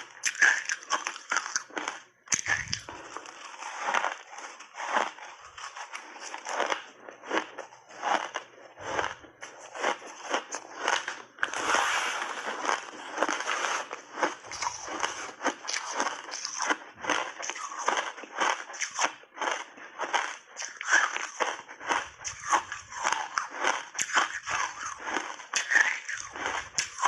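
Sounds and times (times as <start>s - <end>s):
ice being chewed: 0.0s - 27.0s.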